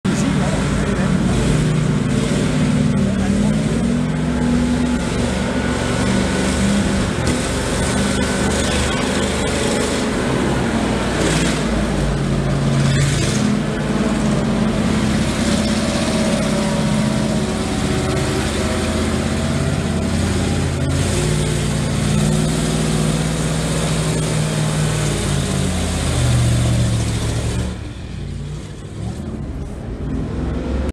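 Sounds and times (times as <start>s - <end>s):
truck engines running under load: 0.0s - 30.9s.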